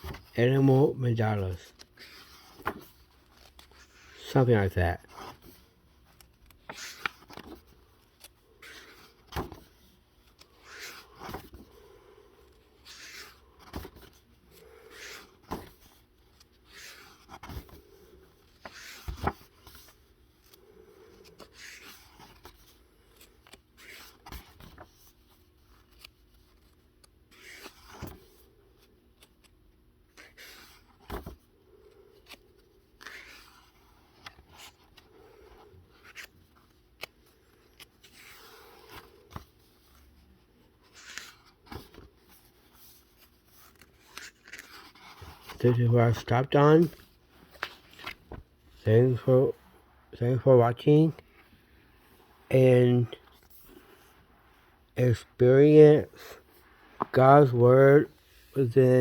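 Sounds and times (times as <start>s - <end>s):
book pages turning: 0.0s - 59.0s.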